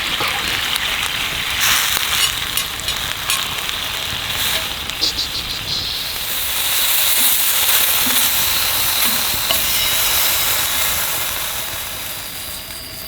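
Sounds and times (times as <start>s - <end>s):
steak sizzling over a campfire: 0.0s - 13.0s.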